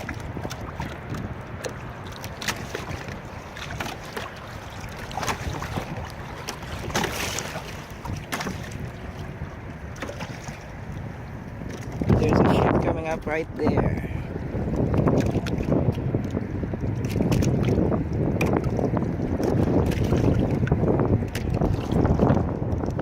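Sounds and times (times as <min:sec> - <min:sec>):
water splashing against kayak hull: 0:00.0 - 0:23.0
wind on microphone: 0:00.0 - 0:23.0.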